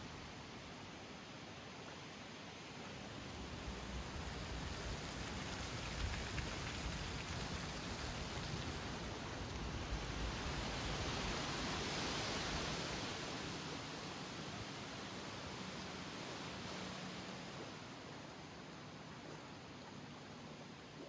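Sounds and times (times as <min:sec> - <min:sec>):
wind through trees: 0:00.0 - 0:21.0.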